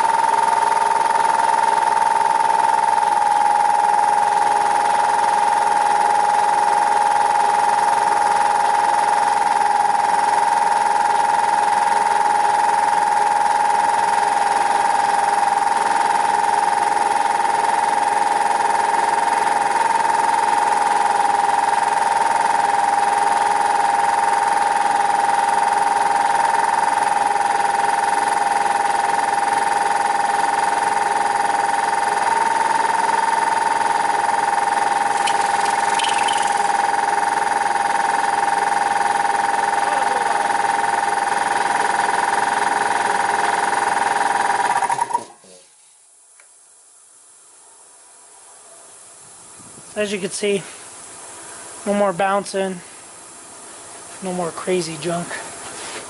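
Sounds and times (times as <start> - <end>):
air compressor whining: 0.0 - 45.4.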